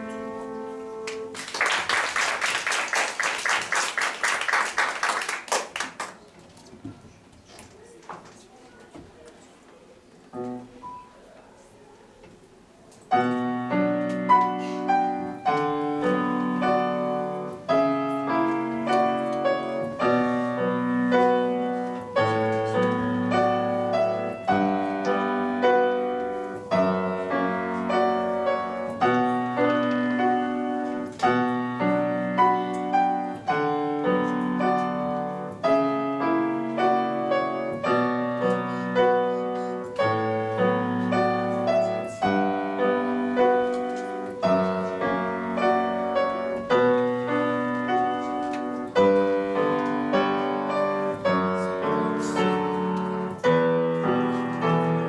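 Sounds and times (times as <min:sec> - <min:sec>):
solo piano classical piece: 0:00.0 - 0:01.4, 0:10.2 - 0:55.0.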